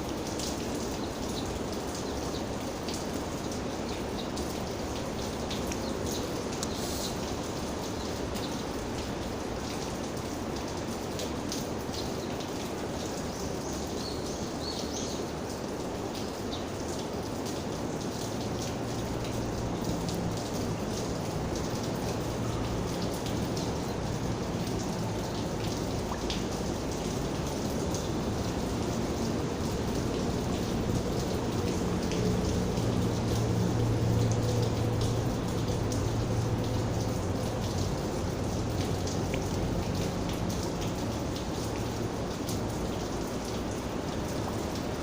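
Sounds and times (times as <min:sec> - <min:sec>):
rain falling: 0:00.0 - 0:45.0
raindrops ticking on a surface: 0:00.0 - 0:45.0.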